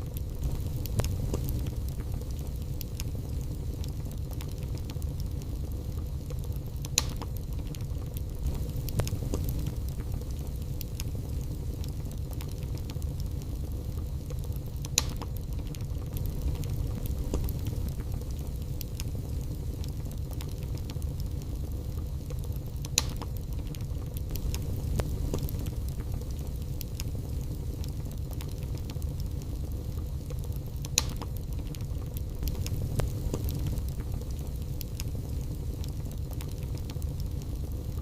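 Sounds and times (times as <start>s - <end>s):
fire crackling and popping: 0.0s - 38.0s
fire rumbling: 0.0s - 38.0s.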